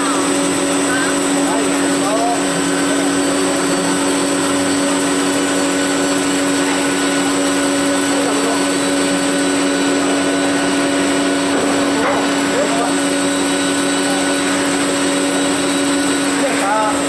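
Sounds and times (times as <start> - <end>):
drilling machine humming: 0.0 - 17.0.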